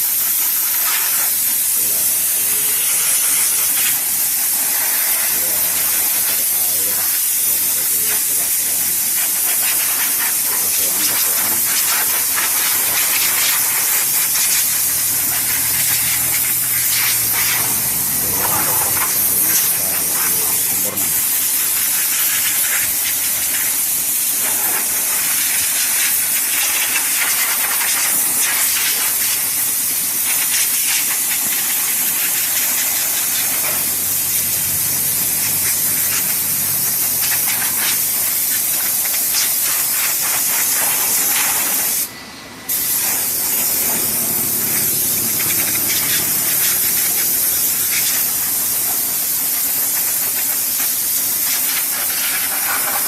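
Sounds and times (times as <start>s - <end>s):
compressed air hissing: 0.0s - 53.0s.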